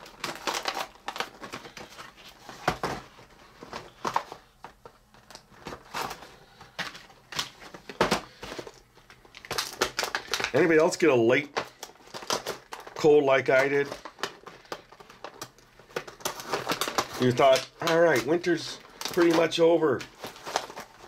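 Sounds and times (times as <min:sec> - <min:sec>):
plastic packaging crinkling: 0:00.0 - 0:21.0.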